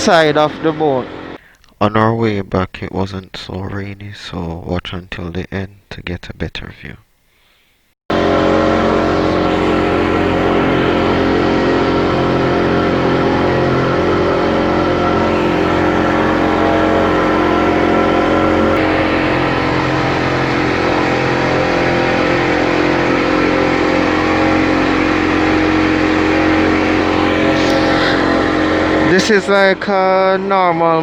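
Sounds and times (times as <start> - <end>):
speedboat engine droning: 0.0 - 2.7, 8.1 - 31.0.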